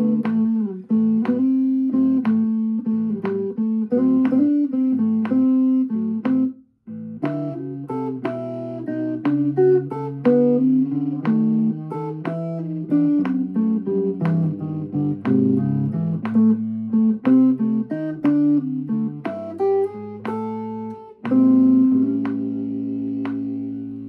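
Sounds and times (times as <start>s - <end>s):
electric guitar blues line: 0.0s - 24.0s.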